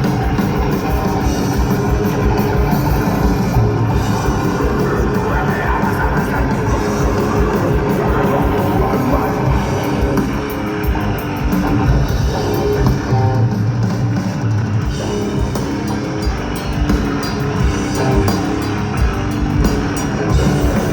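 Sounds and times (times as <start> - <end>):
distorted electric guitars: 0.0 - 20.9
driving drum kit: 0.0 - 20.9.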